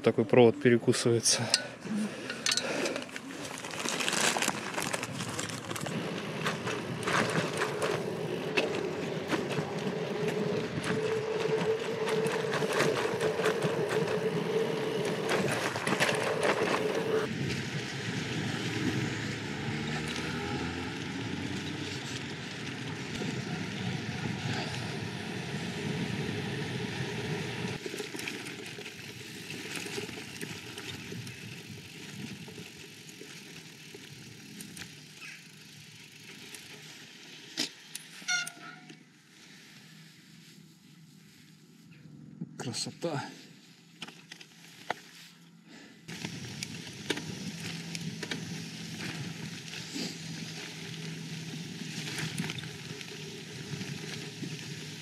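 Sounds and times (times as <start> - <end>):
bike rattling and clicking: 1.3 - 39.0, 43.9 - 45.1, 46.1 - 55.0
bike tyres rolling on gravel: 2.1 - 38.4, 43.1 - 55.0.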